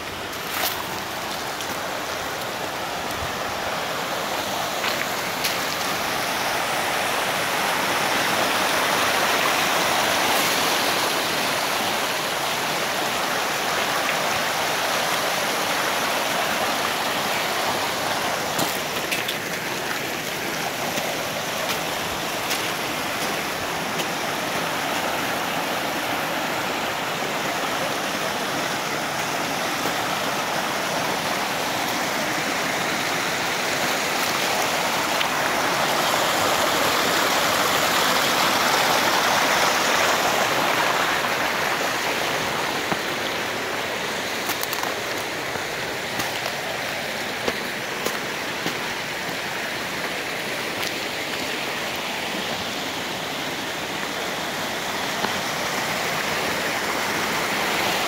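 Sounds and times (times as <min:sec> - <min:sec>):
creek rushing over rocks: 0:00.0 - 0:58.0.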